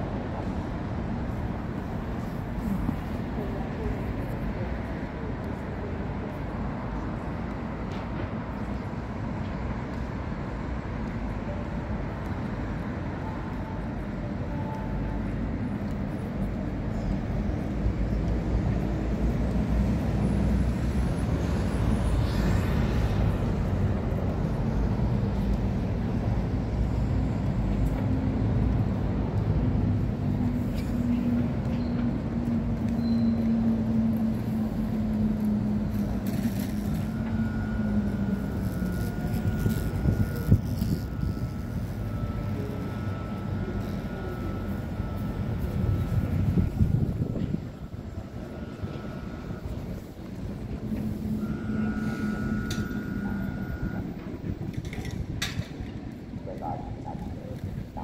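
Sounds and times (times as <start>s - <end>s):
city road traffic: 0.0s - 58.0s
vehicle engine humming: 0.0s - 58.0s.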